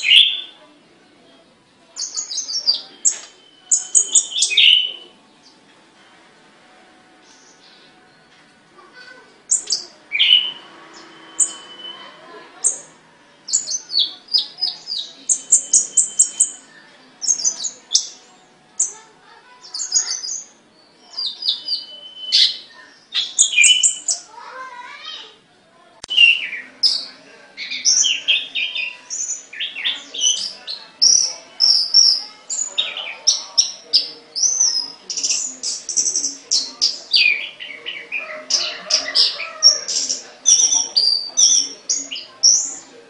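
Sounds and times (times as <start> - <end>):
songbird singing: 0.0 - 5.8, 7.2 - 25.4, 26.0 - 43.0.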